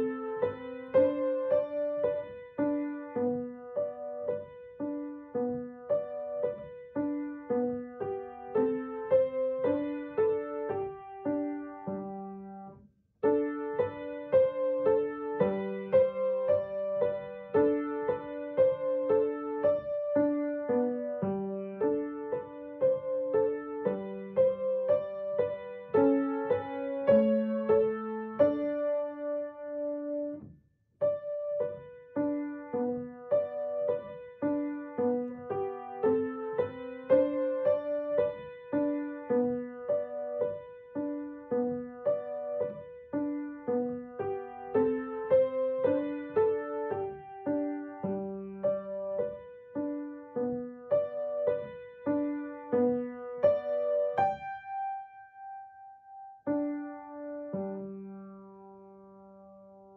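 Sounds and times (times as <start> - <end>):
solo piano melody: 0.0 - 59.9.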